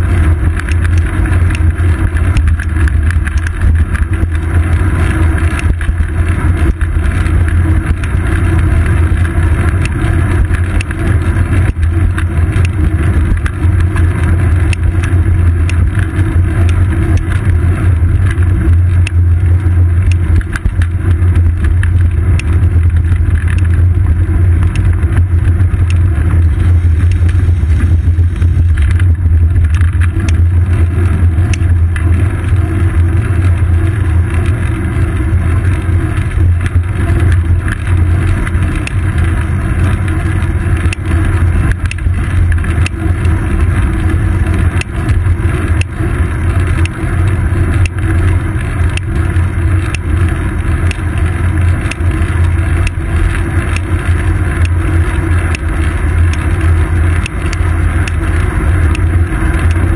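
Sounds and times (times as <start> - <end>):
wind buffeting and road rumble: 0.0 - 59.9
small clicks: 0.2 - 19.2, 20.0 - 23.8, 28.7 - 59.9.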